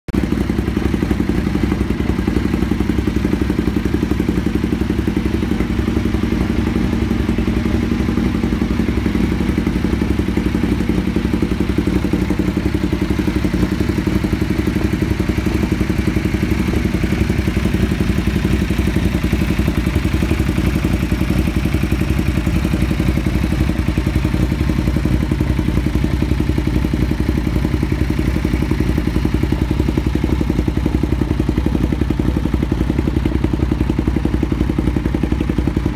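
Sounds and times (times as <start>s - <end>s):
motorcycle engine idling: 0.1s - 35.9s.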